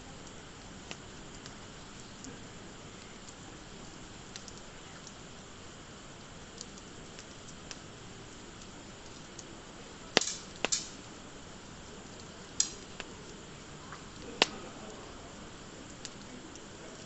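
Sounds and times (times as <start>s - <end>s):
faint steady hiss: 0.0s - 17.0s
loud fire pops: 0.0s - 17.0s
wood fire crackling: 0.0s - 17.0s.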